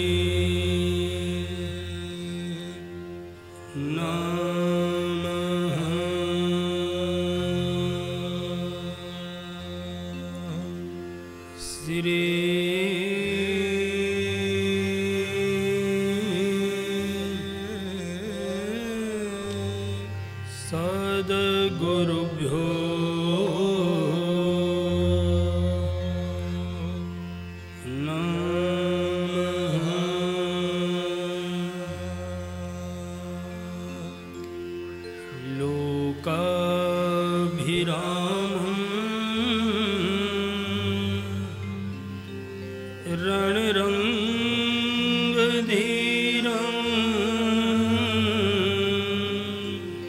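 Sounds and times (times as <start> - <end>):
solo voice chanting: 0.0 - 50.0.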